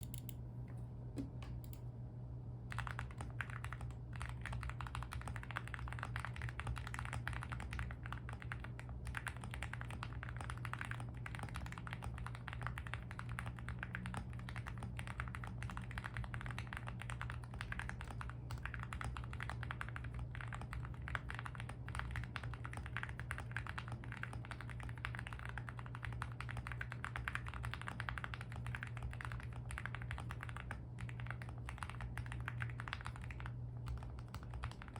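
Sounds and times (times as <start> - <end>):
steady low hum: 0.0 - 34.9
fast typing on mechanical keyboard: 2.7 - 34.9.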